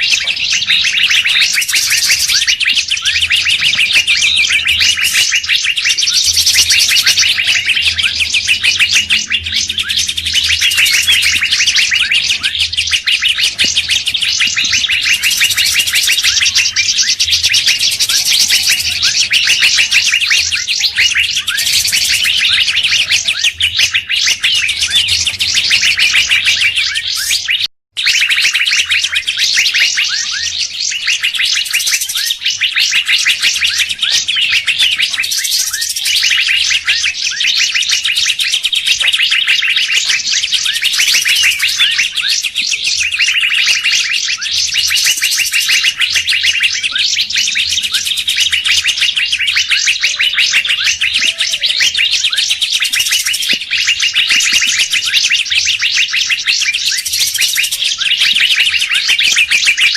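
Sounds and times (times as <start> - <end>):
songbirds chirping and whistling: 0.0 - 59.9.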